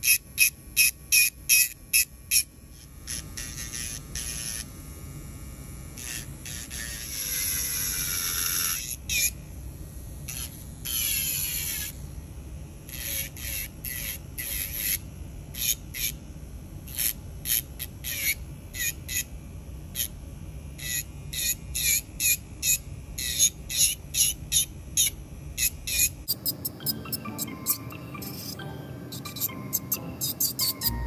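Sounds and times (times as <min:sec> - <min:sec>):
electric nail drill grinding: 0:00.0 - 0:12.2, 0:12.8 - 0:16.2, 0:16.8 - 0:31.0.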